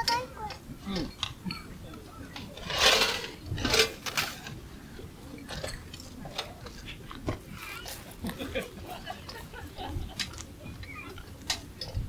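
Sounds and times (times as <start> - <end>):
objects being handled: 2.3 - 12.0.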